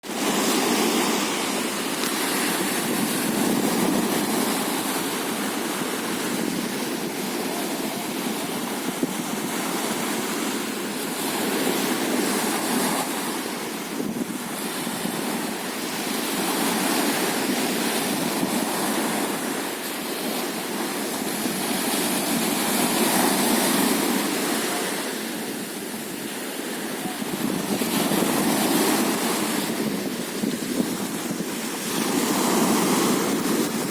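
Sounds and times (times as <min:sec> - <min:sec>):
sea surf on beach: 0:00.0 - 0:33.9.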